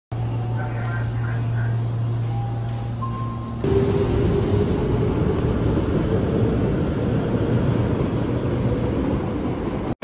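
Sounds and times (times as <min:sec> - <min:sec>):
station platform rumble and hiss: 0:00.1 - 0:10.0.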